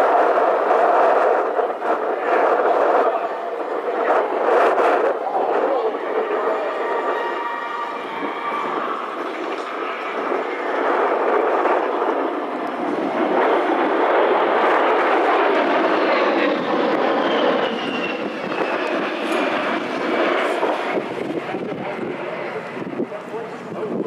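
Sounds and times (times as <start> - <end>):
jet passing overhead: 0.0 - 24.0.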